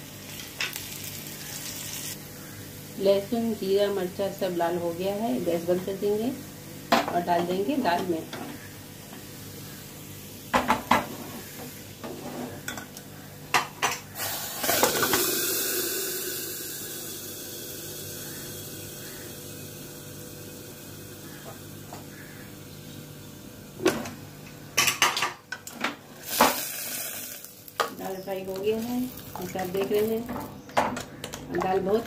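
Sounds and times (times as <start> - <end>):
hot oil sizzling: 0.0 - 24.4, 26.1 - 30.7.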